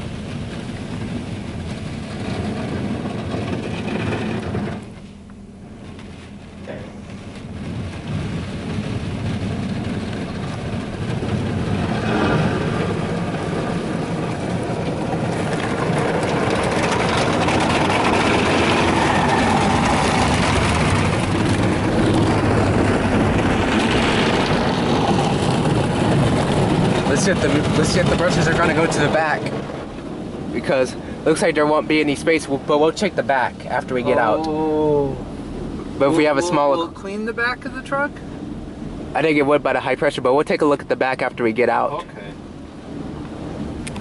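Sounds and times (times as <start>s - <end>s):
water spraying on car: 0.0s - 44.0s.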